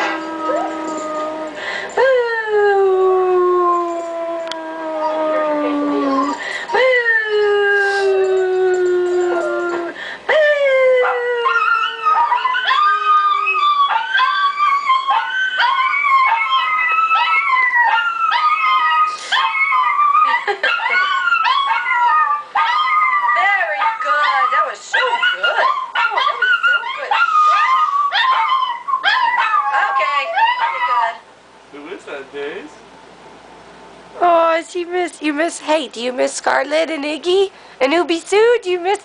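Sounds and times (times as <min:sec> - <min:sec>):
dog howling: 0:00.0 - 0:31.2.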